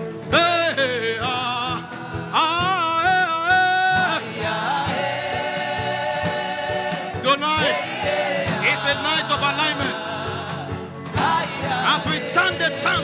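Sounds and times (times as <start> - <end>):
steady low drum beat: 1.3 - 13.0.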